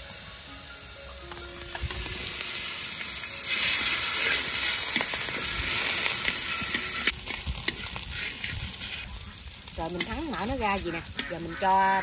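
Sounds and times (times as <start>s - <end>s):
fat sizzling in a pan: 1.6s - 12.0s.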